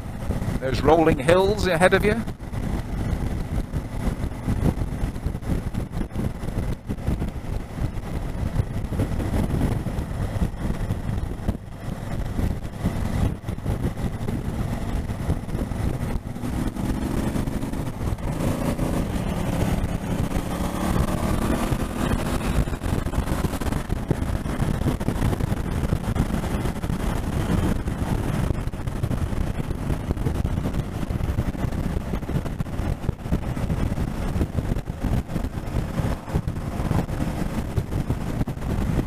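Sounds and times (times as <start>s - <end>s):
motorcycle engine rumble: 0.0s - 39.0s
wind rush: 0.0s - 39.0s.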